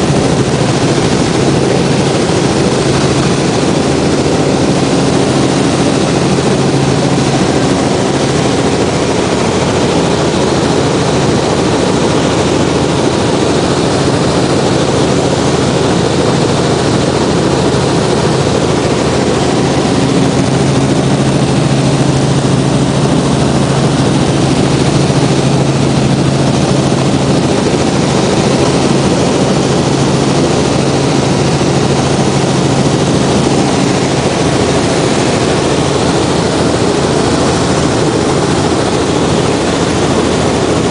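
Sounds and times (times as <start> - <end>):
helicopter engine and rotors drone: 0.0 - 40.9.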